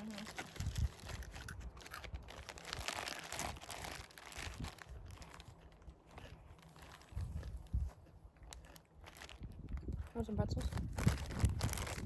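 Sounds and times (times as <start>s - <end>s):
plastic bag crinkling: 0.0s - 7.9s, 8.5s - 12.0s.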